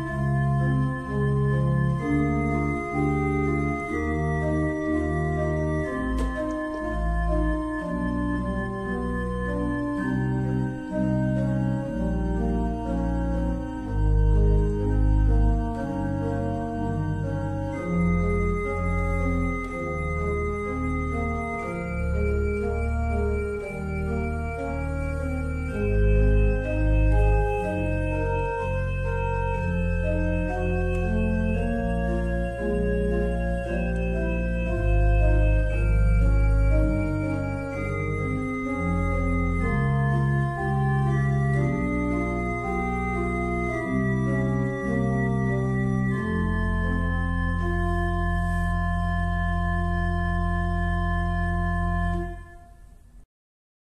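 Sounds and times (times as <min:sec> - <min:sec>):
organ music: 0:00.0 - 0:53.0.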